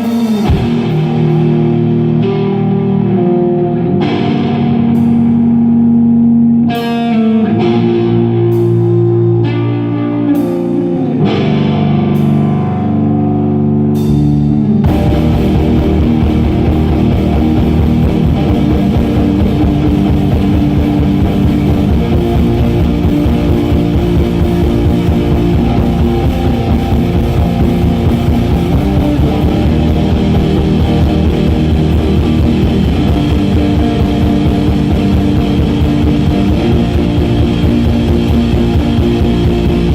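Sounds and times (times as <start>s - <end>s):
drum kit: 0.0s - 3.3s, 4.0s - 7.1s, 10.1s - 39.9s
distorted full band playing: 0.0s - 39.9s
electric guitar chords ringing: 0.0s - 39.9s.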